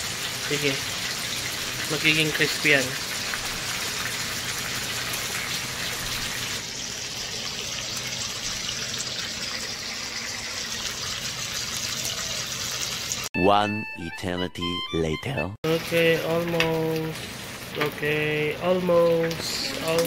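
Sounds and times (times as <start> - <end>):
fish sizzling in hot oil: 0.0 - 13.3, 15.7 - 20.0.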